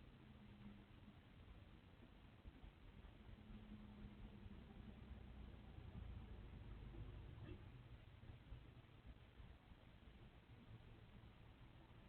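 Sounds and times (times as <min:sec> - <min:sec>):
faint low hum and hiss: 0:00.0 - 0:12.0.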